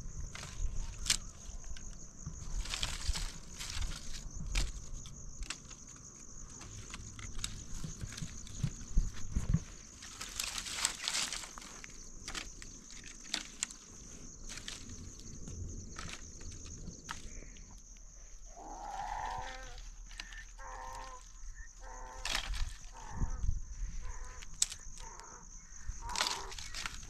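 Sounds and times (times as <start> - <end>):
dry branches rustling and snapping: 0.0 - 27.0.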